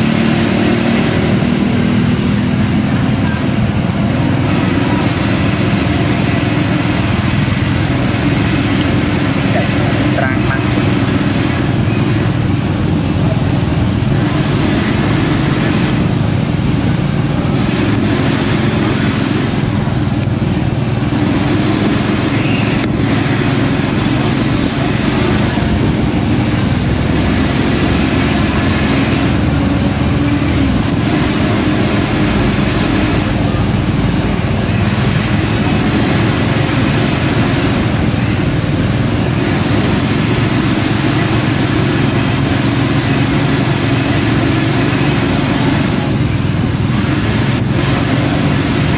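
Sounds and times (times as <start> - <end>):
engine droning: 0.0 - 48.9.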